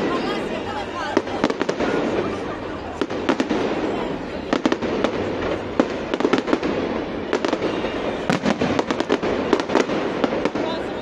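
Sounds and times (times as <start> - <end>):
continuous crackling haze: 0.0 - 11.0
fireworks bangs and crackles: 0.0 - 11.0.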